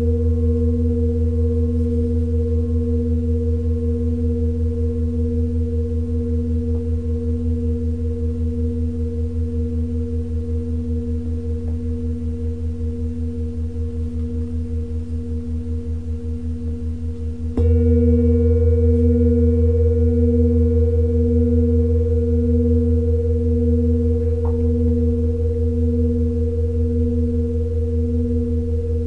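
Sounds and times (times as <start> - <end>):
singing bowl ringing: 0.0 - 29.0
singing bowl struck: 0.0 - 29.0.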